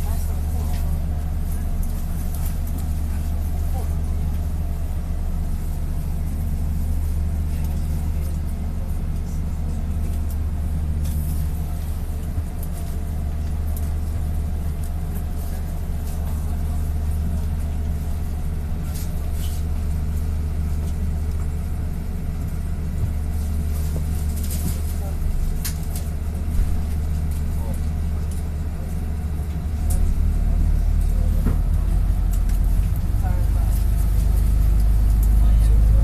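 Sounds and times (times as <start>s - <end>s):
bus engine idling: 0.0s - 36.0s.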